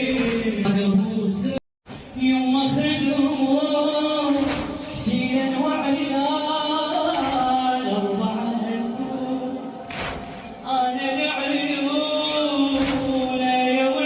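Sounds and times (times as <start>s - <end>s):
men chanting a mourning lament: 2.2s - 14.0s.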